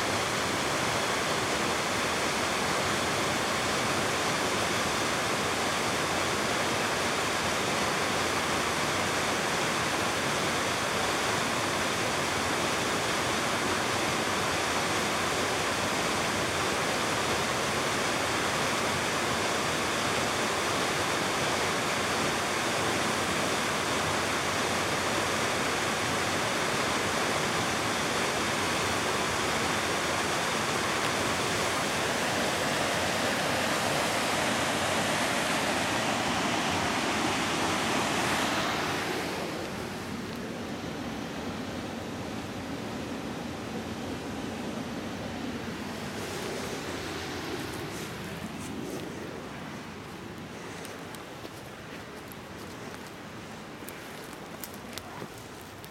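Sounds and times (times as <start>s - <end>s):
waterfall rushing over rocks: 0.0s - 55.9s.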